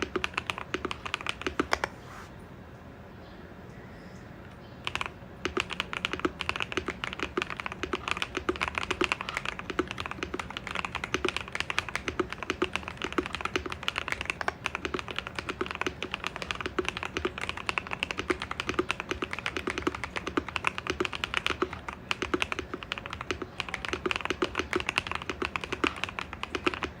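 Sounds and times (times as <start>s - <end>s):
mechanical keyboard typing: 0.0s - 1.9s, 4.8s - 27.0s.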